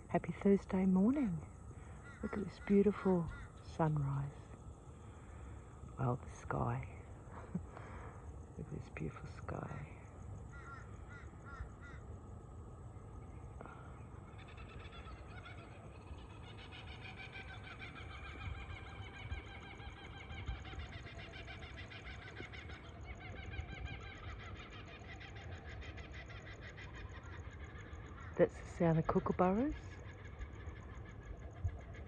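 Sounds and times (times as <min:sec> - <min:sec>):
kookaburras cackling: 0:00.0 - 0:04.4, 0:05.0 - 0:12.2, 0:13.4 - 0:32.0.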